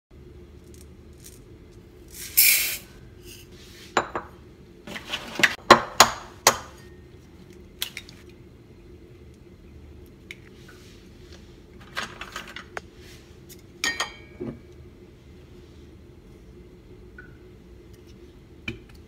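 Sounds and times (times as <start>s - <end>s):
steady low hum: 0.1s - 19.0s.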